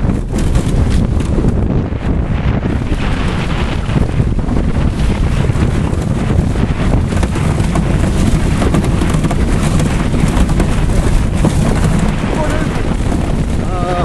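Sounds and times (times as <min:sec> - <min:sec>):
knocks and rattles: 0:00.0 - 0:13.8
car rumbling over rough field: 0:00.0 - 0:14.0
wind buffeting microphone: 0:00.0 - 0:14.0.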